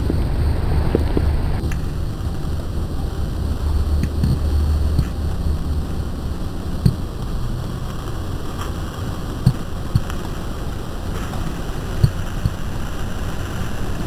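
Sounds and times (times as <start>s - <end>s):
steady low rumbling: 0.0s - 14.0s.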